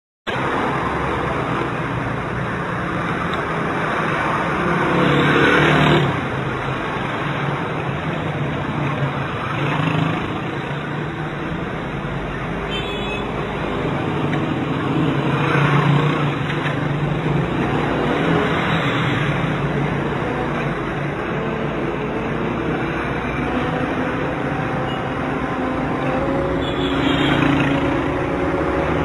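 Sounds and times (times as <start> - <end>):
road noise inside car: 0.3 - 29.0.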